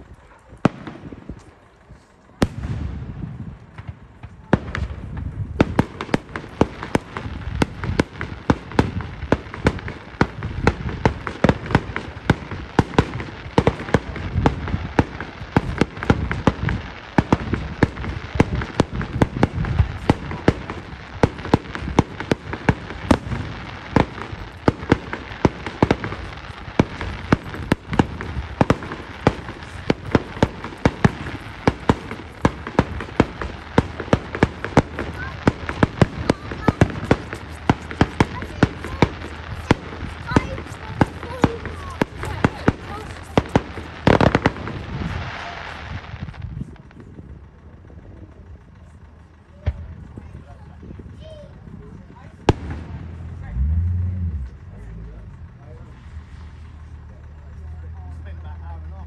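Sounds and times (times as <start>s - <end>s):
firework bangs and crackles: 0.0s - 59.0s.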